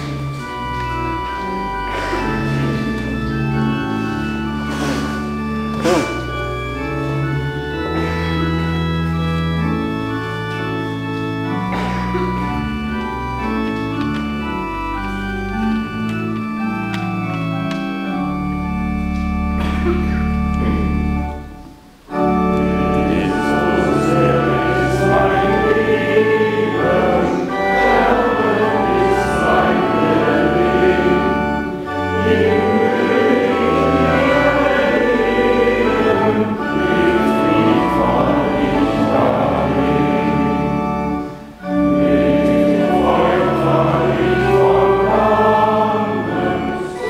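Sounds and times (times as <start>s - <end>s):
church organ playing hymn: 0.0s - 47.0s.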